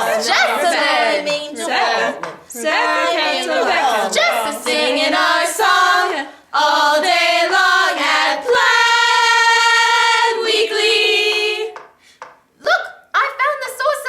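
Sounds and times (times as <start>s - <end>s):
voices singing chant in harmony: 0.0s - 12.0s.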